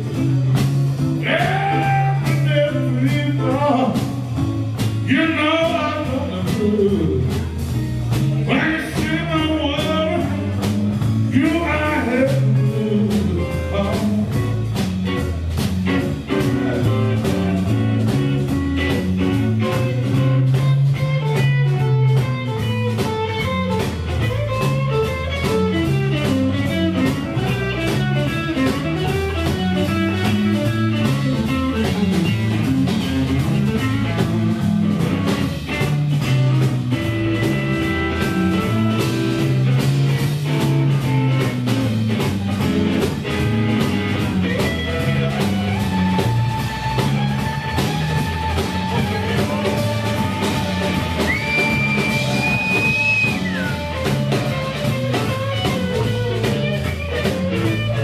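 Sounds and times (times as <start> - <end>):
bass guitar: 0.0 - 58.0
drum kit steady beat: 0.0 - 58.0
electric guitar lead lines: 0.0 - 58.0.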